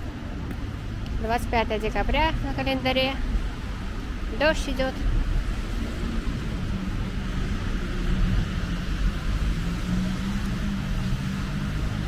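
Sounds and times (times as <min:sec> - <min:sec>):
vehicle engine hum: 0:00.0 - 0:12.0
tyres hissing on wet road: 0:01.9 - 0:12.0.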